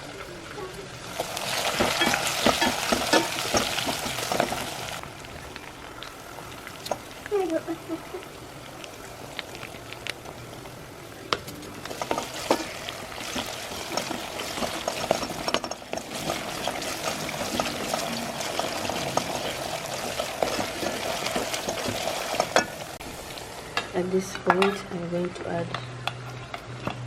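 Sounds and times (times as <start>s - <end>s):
onions and garlic sizzling in a pot: 0.0s - 26.6s.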